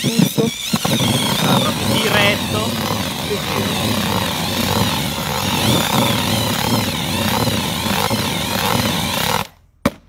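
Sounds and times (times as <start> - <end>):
cordless drill motor whining: 0.0 - 9.5
paddle mixer churning earth: 0.6 - 9.5.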